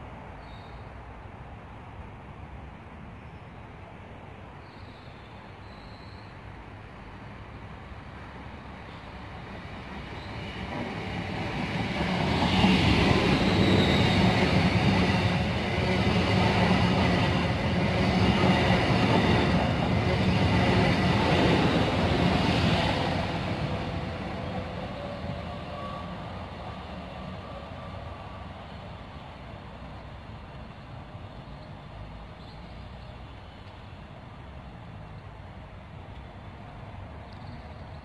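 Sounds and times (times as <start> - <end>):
train passing at speed: 0.0 - 38.0.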